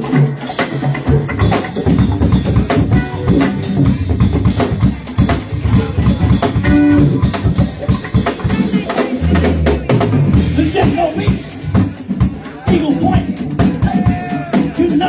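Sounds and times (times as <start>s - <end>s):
bass guitar: 0.0s - 15.0s
drum kit: 0.0s - 15.0s
live rock band playing: 0.0s - 15.0s.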